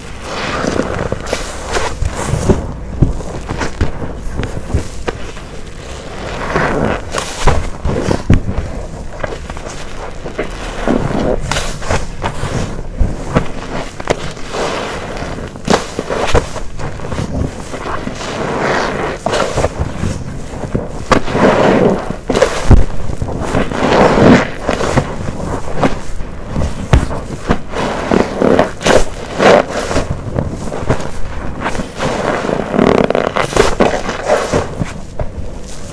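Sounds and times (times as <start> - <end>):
soapy sponge squelching: 0.0 - 35.9.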